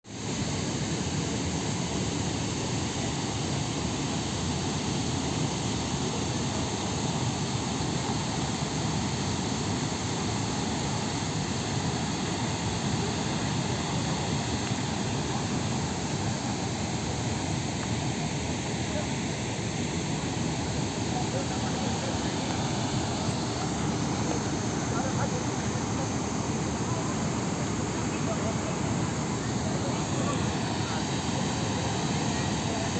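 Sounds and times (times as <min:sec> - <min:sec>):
waterfall roaring: 0:00.2 - 0:32.9.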